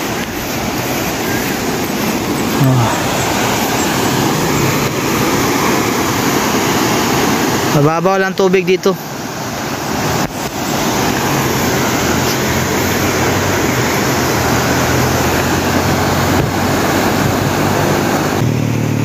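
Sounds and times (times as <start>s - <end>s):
river rapids rushing: 0.0s - 19.0s
vehicle engine hum: 0.0s - 19.0s.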